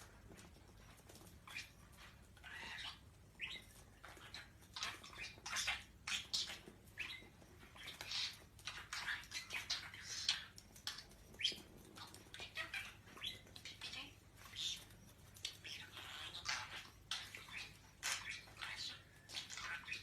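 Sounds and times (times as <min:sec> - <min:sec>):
lovebirds chirping: 0:00.0 - 0:20.0.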